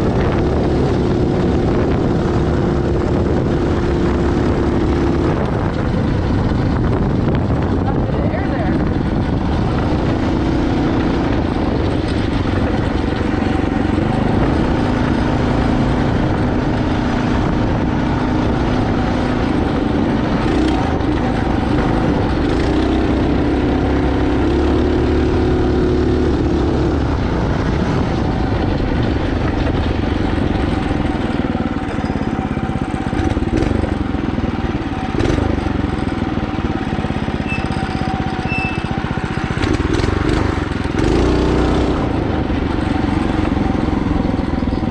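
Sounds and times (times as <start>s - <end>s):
mini bike engine running: 0.0s - 44.9s.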